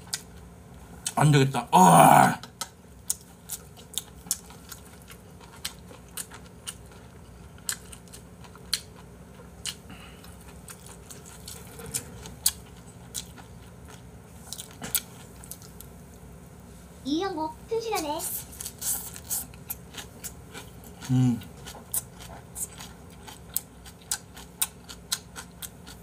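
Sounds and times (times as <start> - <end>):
food crunching while chewing: 0.0 - 1.2, 2.4 - 16.0, 18.4 - 26.0.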